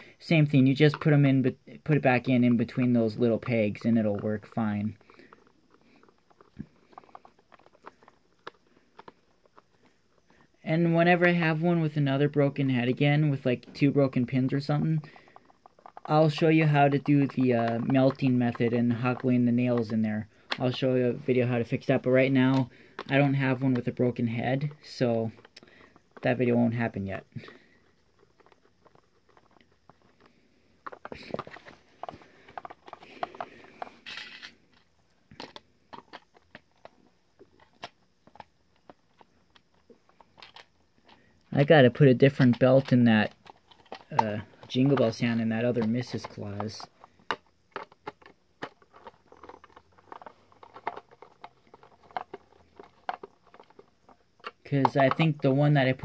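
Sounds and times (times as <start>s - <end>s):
hard plastic clicking and rattling: 0.5s - 10.4s, 13.6s - 56.0s.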